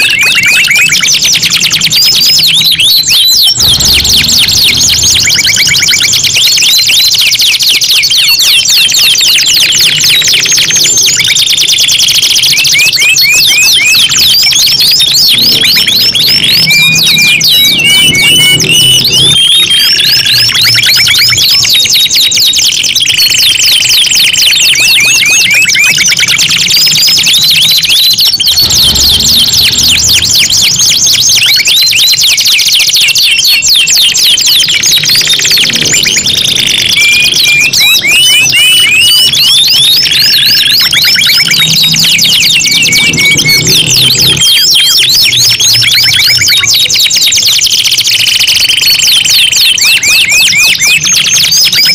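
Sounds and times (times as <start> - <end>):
canaries singing trills: 0.0 - 51.9.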